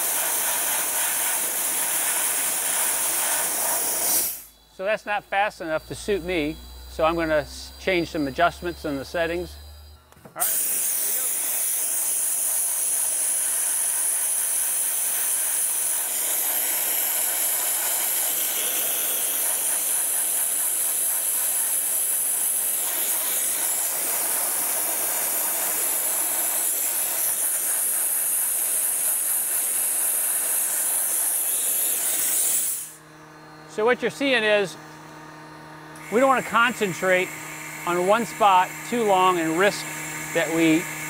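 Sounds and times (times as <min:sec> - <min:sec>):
dry ice blasting hiss: 0:00.0 - 0:41.0.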